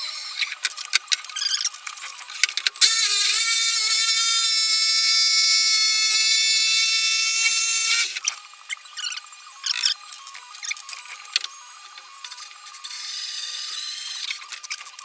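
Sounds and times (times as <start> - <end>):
electric drill whining: 0.0 - 15.0.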